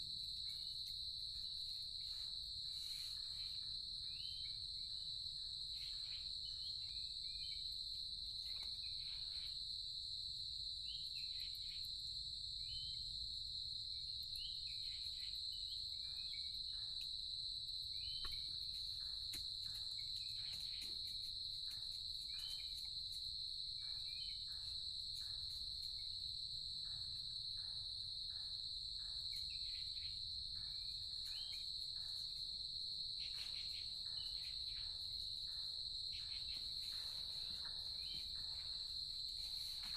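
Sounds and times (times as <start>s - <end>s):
insect chirps and clicks: 0.0s - 39.9s.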